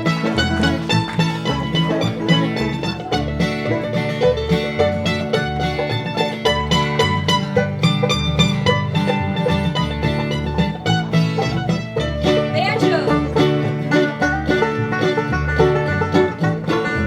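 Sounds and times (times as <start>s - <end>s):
bass line: 0.0s - 17.0s
guitar: 0.0s - 17.0s
picked banjo: 0.0s - 17.0s.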